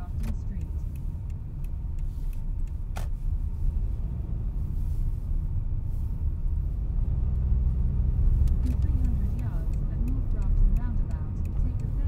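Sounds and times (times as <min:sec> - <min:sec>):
car road rumble inside cabin: 0:00.0 - 0:12.0.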